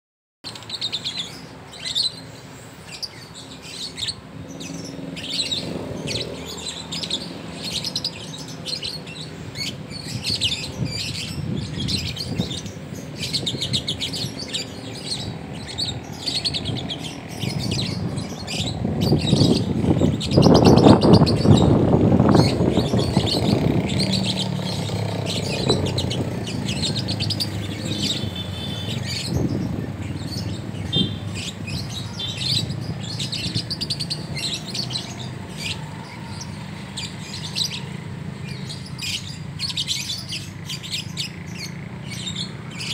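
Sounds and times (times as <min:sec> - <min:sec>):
lovebirds chirping: 0:00.5 - 0:42.9.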